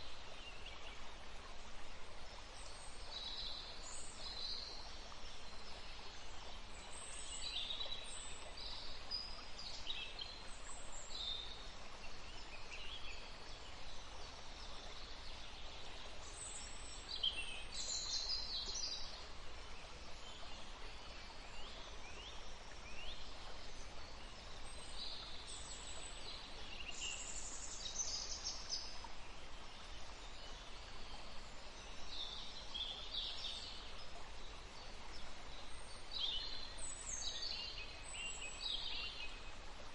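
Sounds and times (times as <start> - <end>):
forest stream rushing: 0.0 - 39.9
songbirds chirping: 0.0 - 39.9.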